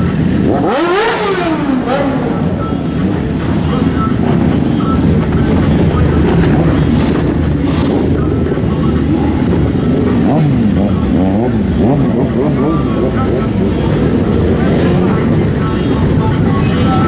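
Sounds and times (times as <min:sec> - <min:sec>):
motorcycle engines at low speed: 0:00.0 - 0:17.0.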